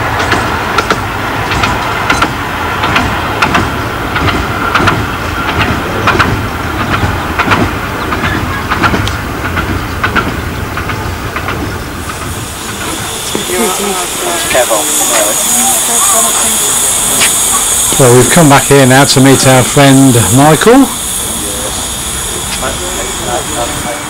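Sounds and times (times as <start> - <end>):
train low rumble: 0.0 - 24.0
train wheels clicking over rail joints: 0.0 - 24.0.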